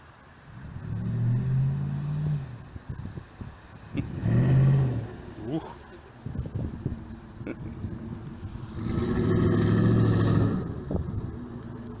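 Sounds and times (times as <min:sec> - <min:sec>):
car engine idling and revving: 0:00.5 - 0:03.1, 0:03.8 - 0:12.0.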